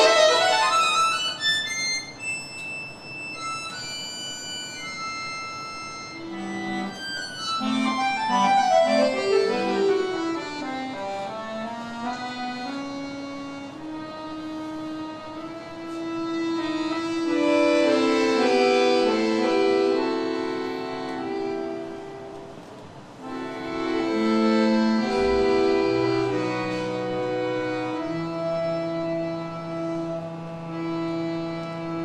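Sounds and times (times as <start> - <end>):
accordion folk melody: 0.0 - 32.0.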